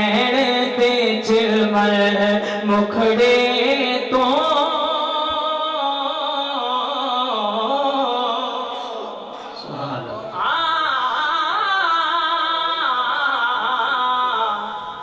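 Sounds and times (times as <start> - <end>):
man singing into a microphone: 0.0 - 9.5, 10.1 - 15.0.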